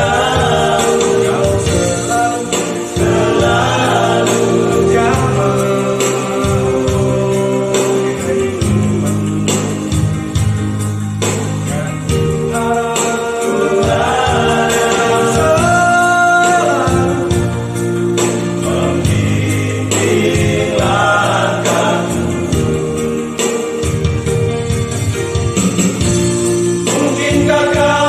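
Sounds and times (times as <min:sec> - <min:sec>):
band accompaniment with steady beat: 0:00.0 - 0:28.0
vocal group singing in harmony: 0:00.0 - 0:28.0.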